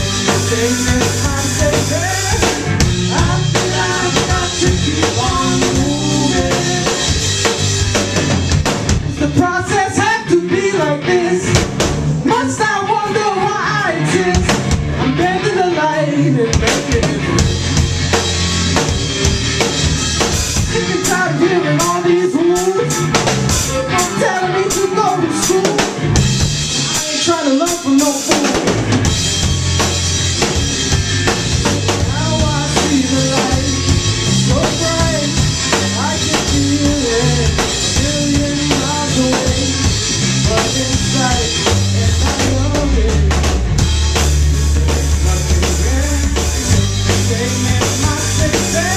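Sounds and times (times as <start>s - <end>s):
bass guitar: 0.0s - 48.9s
drum kit: 0.0s - 48.9s
electric guitar: 0.0s - 48.9s.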